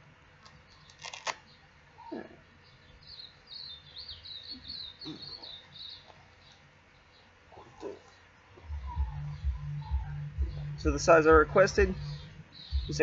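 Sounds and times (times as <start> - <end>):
songbird chirping and warbling: 0.6 - 13.0.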